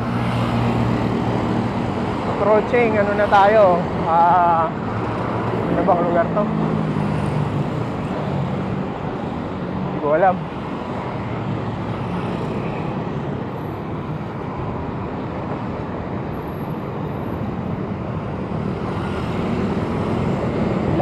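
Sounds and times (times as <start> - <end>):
city traffic roar: 0.0 - 21.0.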